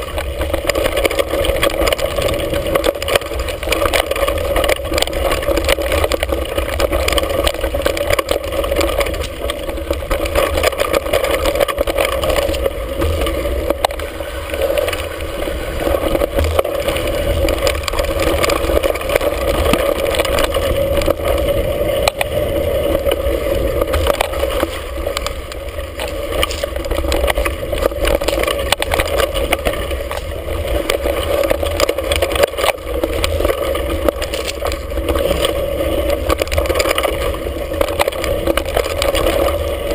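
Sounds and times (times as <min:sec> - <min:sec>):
bike rattling over bumps: 0:00.0 - 0:39.9
wind and tyres rumbling: 0:00.0 - 0:39.9.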